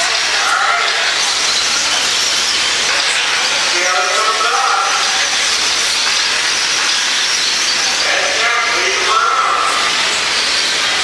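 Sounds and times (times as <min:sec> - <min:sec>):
electric rc trucks racing: 0:00.0 - 0:11.0.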